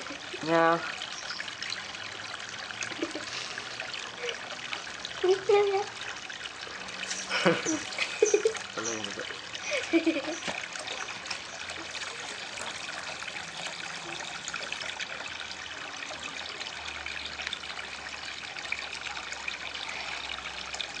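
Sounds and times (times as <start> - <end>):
water trickling into a pond: 0.0 - 21.0.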